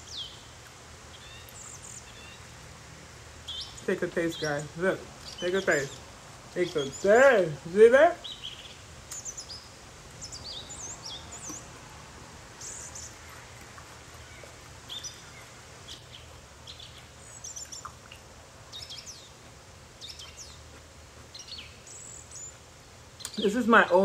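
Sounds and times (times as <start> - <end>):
small birds chirping: 0.0 - 2.7, 3.4 - 24.0
steady low background noise: 0.0 - 24.0.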